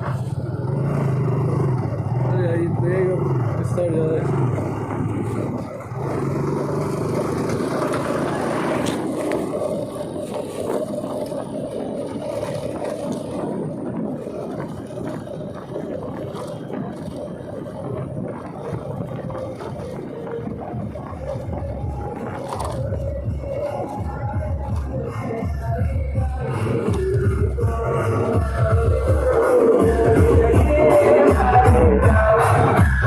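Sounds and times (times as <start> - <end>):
motorcycle engine: 0.0 - 33.0
wind rushing over microphone: 0.0 - 33.0.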